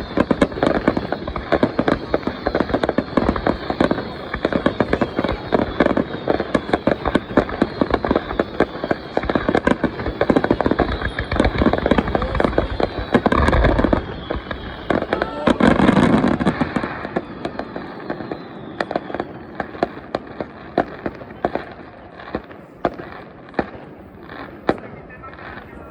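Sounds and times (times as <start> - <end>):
fireworks booms: 0.0 - 25.9
fireworks crackling and popping: 0.0 - 25.9.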